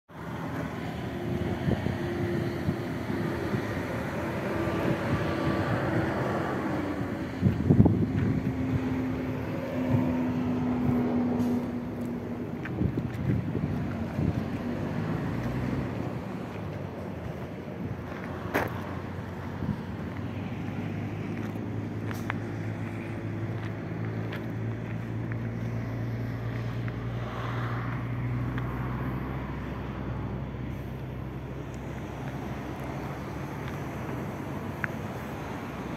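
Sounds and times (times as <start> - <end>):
truck engine rumbling: 0.1 - 35.9.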